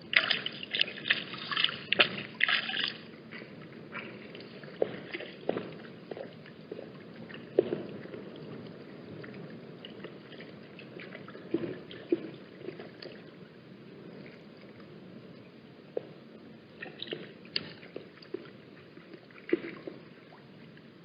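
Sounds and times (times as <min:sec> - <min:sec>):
water dripping and splashing: 0:00.0 - 0:14.4, 0:16.8 - 0:21.0
steady wind: 0:00.0 - 0:21.0.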